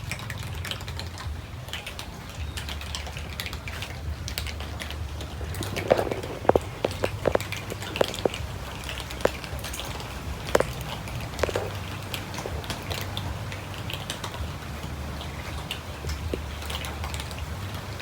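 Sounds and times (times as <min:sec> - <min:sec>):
cats crunching food: 0:00.0 - 0:18.0.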